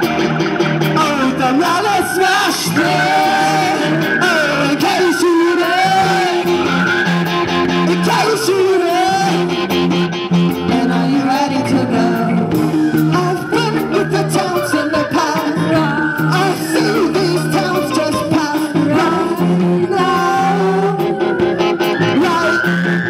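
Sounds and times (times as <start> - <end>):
rock band playing live: 0.0 - 23.0
person singing: 1.0 - 9.8, 10.4 - 23.0.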